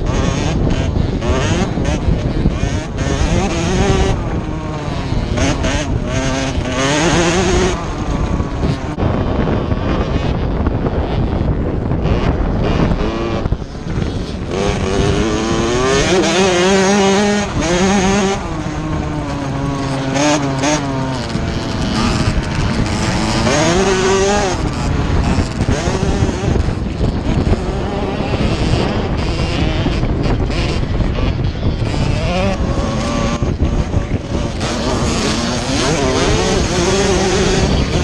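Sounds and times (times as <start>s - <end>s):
dirt bike engine revving: 0.0s - 38.0s
wind on microphone: 0.0s - 38.0s.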